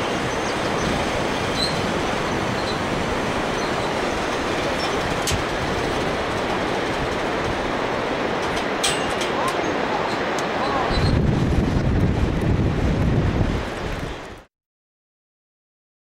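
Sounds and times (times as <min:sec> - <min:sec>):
whitewater rapids roaring: 0:00.0 - 0:14.4.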